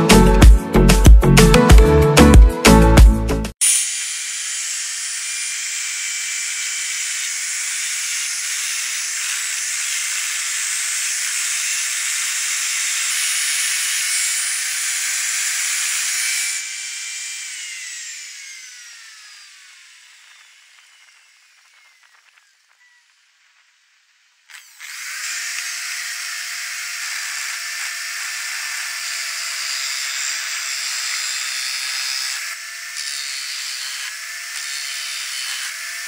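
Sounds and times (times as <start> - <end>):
motors whining: 3.7 - 36.0.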